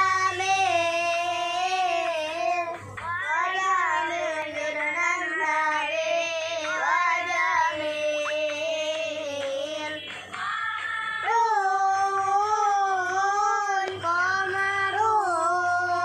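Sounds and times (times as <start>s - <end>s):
boy singing into microphone: 0.0s - 10.3s, 11.1s - 16.0s.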